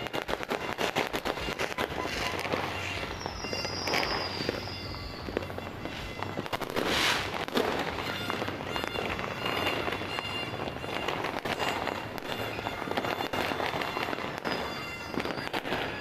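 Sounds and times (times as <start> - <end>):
fireworks and firecrackers crackling: 0.0 - 16.0
high firework whistle: 0.0 - 16.0.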